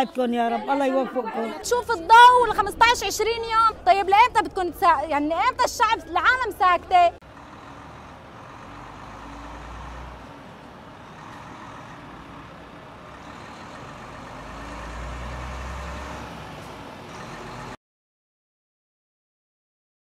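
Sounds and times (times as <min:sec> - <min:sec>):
truck engines rumbling: 0:00.8 - 0:17.8
road noise: 0:01.0 - 0:17.8.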